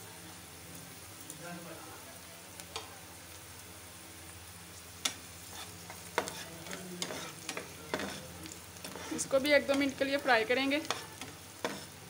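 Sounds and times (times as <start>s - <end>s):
vegetables frying in oil: 0.0s - 12.0s.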